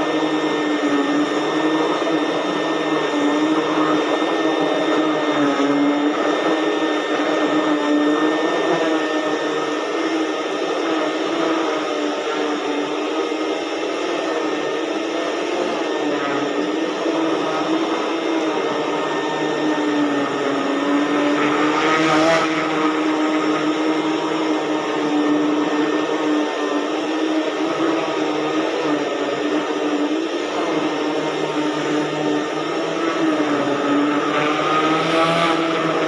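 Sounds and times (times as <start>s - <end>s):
vacuum cleaner on carpet: 0.0s - 36.0s.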